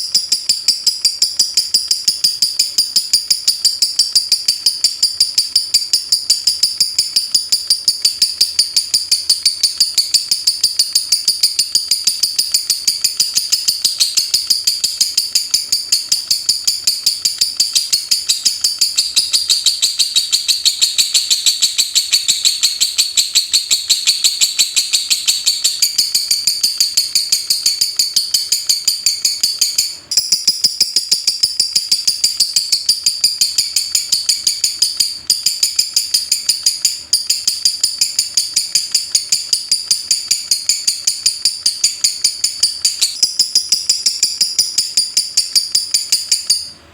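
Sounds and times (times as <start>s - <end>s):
lovebird ticking chirps: 0.0s - 46.9s.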